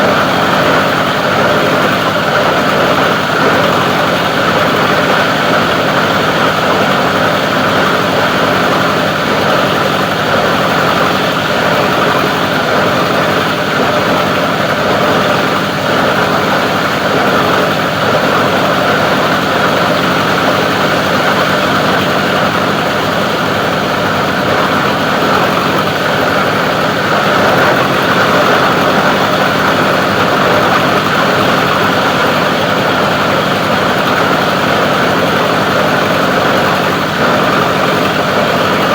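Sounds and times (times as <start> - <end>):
plastic grinding machine running: 0.0 - 38.9.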